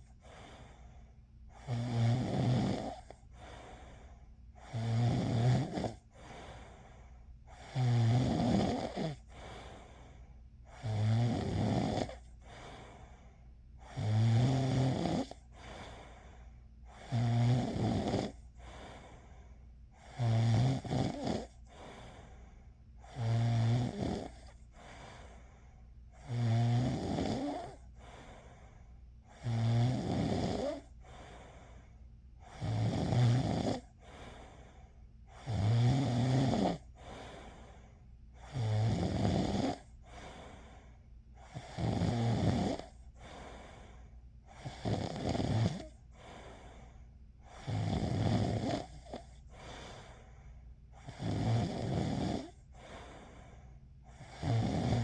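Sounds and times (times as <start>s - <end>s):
faint breathing: 0.0s - 1.9s, 2.8s - 5.0s, 5.6s - 7.9s, 8.7s - 11.0s, 12.0s - 14.1s, 15.2s - 17.4s, 18.0s - 20.2s, 21.1s - 26.3s, 27.4s - 29.6s, 30.6s - 32.6s, 33.6s - 35.6s, 36.7s - 38.6s, 39.5s - 55.0s
person snoring: 1.5s - 13.2s, 13.8s - 25.5s, 26.1s - 28.6s, 29.3s - 31.8s, 32.4s - 55.0s.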